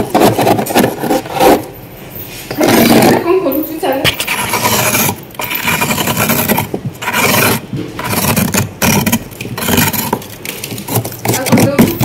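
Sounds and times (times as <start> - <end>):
scraping freezer frost: 0.0 - 1.7, 2.4 - 3.4, 4.0 - 12.0.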